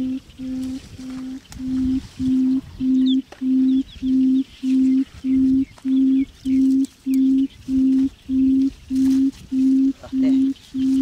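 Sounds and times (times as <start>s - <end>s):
faint bird chirps: 0.0s - 11.0s
low tone beeping: 0.0s - 11.0s.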